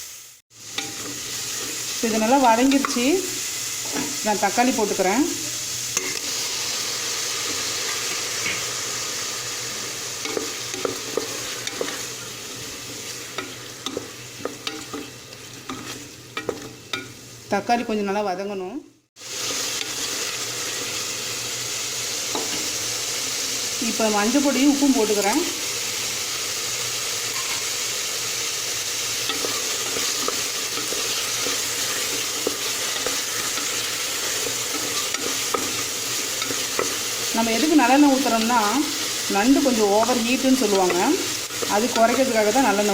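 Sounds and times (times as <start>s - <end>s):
food sizzling in oil: 0.0s - 18.5s, 19.1s - 42.9s.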